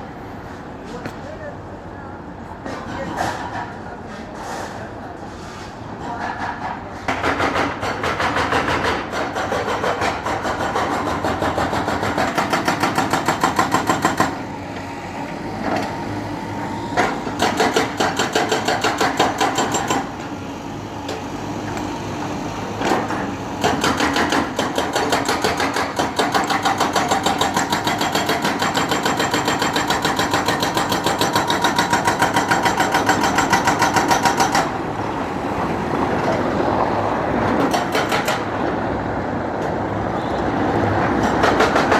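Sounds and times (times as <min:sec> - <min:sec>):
construction machinery clattering: 0:06.0 - 0:38.9, 0:39.5 - 0:41.9.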